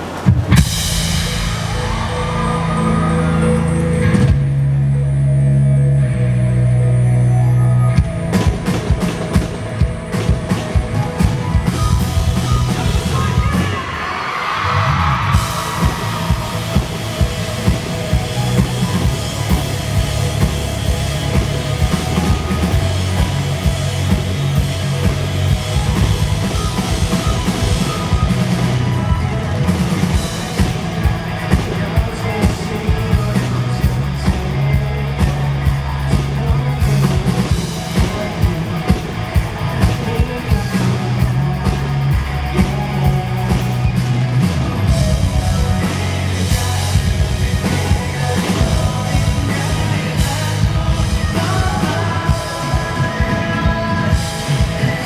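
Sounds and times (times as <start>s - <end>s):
live rock band playing: 0.5s - 4.7s, 7.9s - 55.0s.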